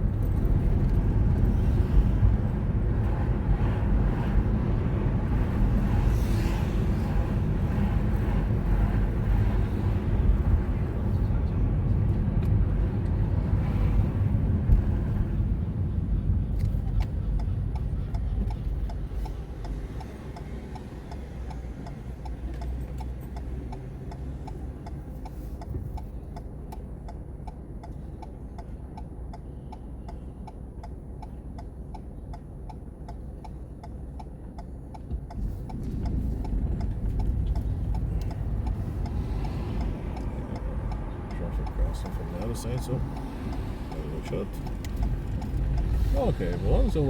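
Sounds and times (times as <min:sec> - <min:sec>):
low engine rumble: 0:00.0 - 0:47.0
road rumble: 0:00.0 - 0:47.0
turn signal ticking: 0:00.0 - 0:47.0.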